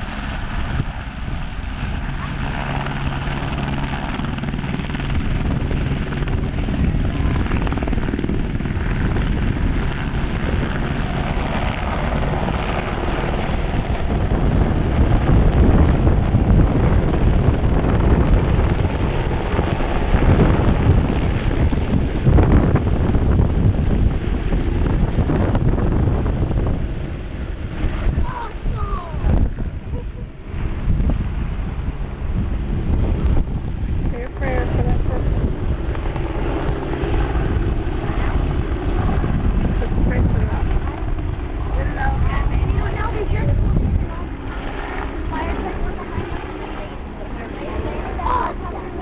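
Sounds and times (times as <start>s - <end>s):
helicopter rotor and turbine engine: 0.0s - 49.0s.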